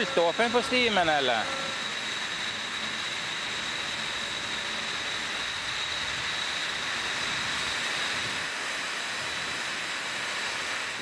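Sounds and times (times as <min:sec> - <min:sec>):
steam hissing from hoses: 0:00.0 - 0:11.0.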